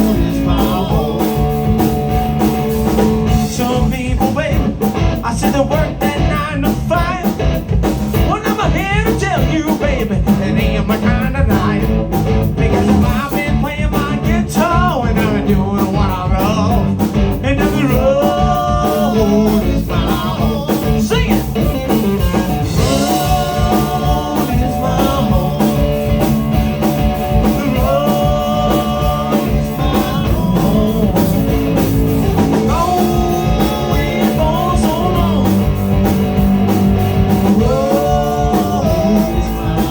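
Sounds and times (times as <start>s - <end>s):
blues-rock band playing: 0.0s - 39.9s
electric guitar with bent notes: 0.0s - 39.9s.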